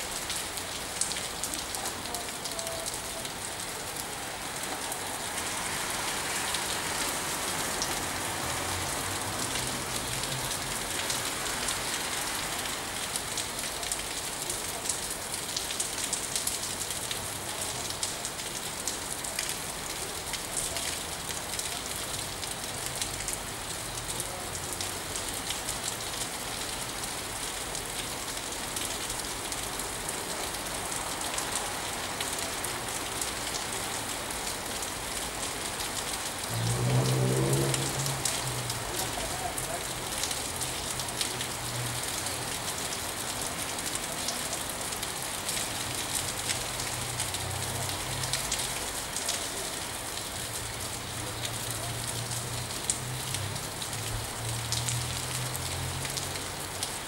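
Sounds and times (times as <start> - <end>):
steady rain on a tree: 0.0 - 57.0.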